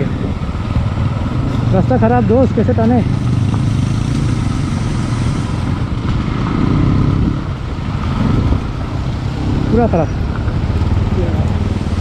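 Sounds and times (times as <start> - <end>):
wind rushing over microphone: 0.0 - 1.8, 2.4 - 12.0
motorcycle engine running: 0.0 - 12.0.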